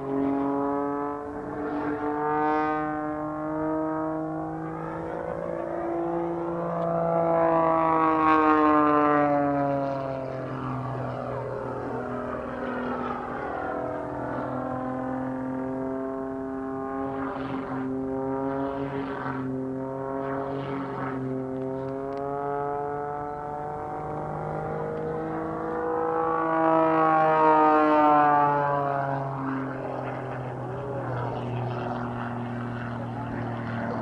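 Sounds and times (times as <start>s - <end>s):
biplane engine droning: 0.0s - 34.0s.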